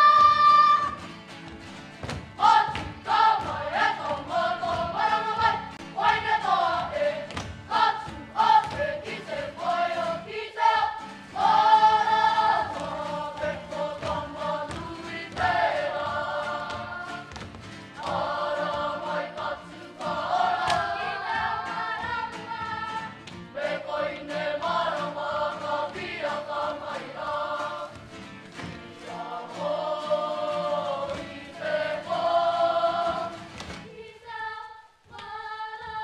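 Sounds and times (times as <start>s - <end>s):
children singing together: 0.0s - 1.1s, 2.4s - 17.4s, 18.0s - 28.1s, 29.0s - 36.0s
acoustic guitars: 0.0s - 34.6s.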